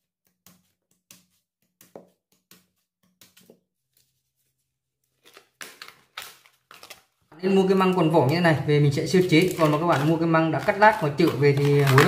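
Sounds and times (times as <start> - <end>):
ingredients handled on worktop: 0.2 - 12.0.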